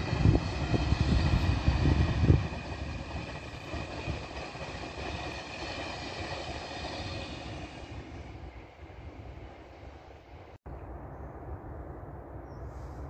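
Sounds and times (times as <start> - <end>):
train rumbling past: 0.0 - 10.6.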